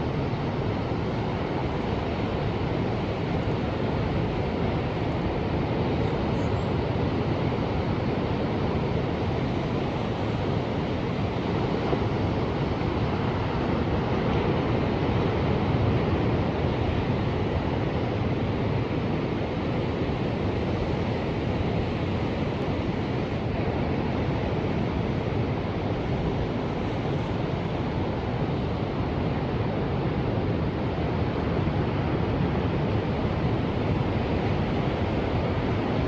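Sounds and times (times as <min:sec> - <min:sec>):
ocean waves washing on shore: 0:00.0 - 0:36.0
wind on microphone: 0:00.0 - 0:36.0.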